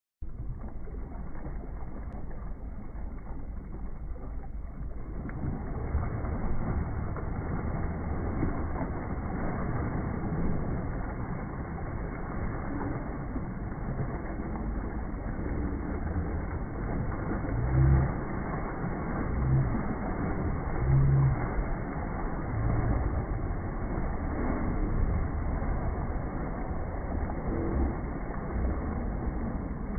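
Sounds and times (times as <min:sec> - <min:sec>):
steady low rumble: 0:00.2 - 0:29.9
water splashing and churning: 0:00.2 - 0:29.9.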